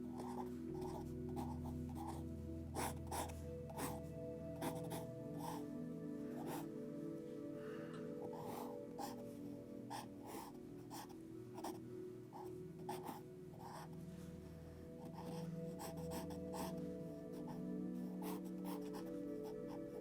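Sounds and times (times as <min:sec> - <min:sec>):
pencil strokes scratching paper: 0:00.0 - 0:05.7, 0:06.3 - 0:06.7, 0:08.2 - 0:14.0, 0:15.0 - 0:20.0
soft background music: 0:00.0 - 0:20.0.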